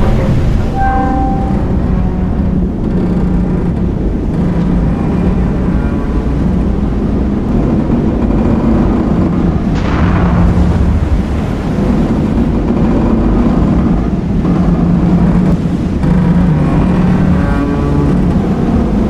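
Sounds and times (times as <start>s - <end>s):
heavy low rumble: 0.0s - 19.0s.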